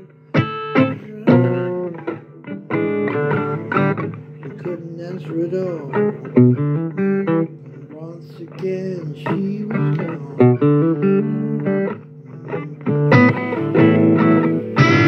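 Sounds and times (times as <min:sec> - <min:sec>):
blues guitar notes: 0:00.0 - 0:15.0.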